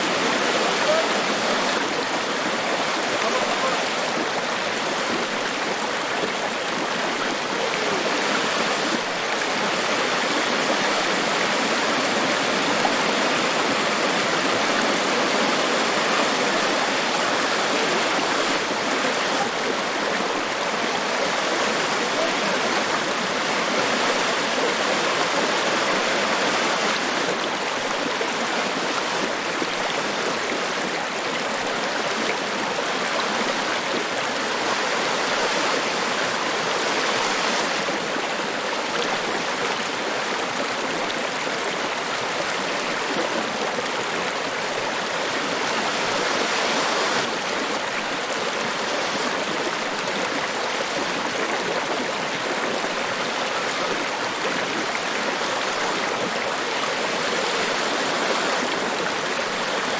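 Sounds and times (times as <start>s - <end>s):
waterfall rushing: 0.0s - 30.8s, 32.1s - 38.7s, 41.8s - 59.9s.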